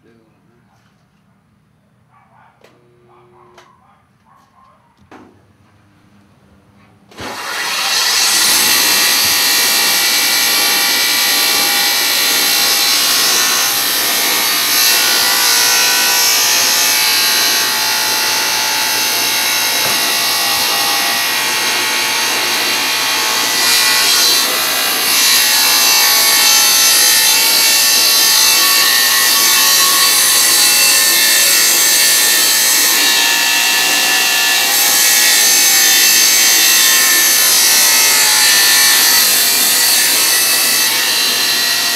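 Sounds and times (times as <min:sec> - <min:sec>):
electric saw cutting wood: 0:07.1 - 0:41.9.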